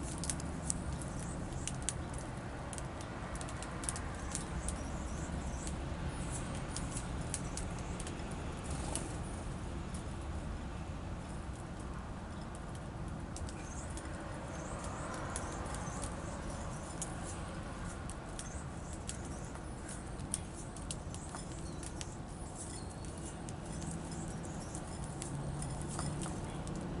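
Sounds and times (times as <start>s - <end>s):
birds pecking and hopping: 0.0s - 27.0s.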